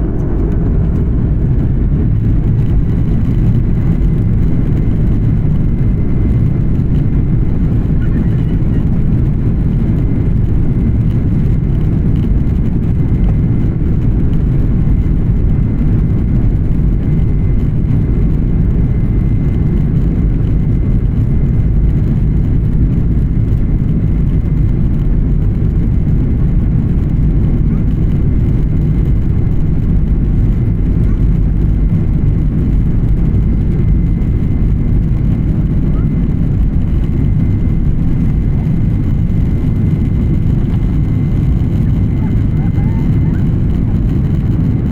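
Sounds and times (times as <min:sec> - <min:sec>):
jet cabin engine rumble: 0:00.0 - 0:44.9.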